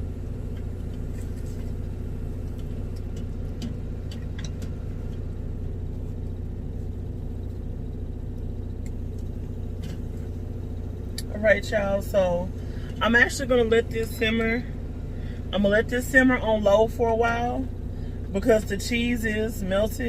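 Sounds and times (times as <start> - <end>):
engine idling hum: 0.0 - 20.0.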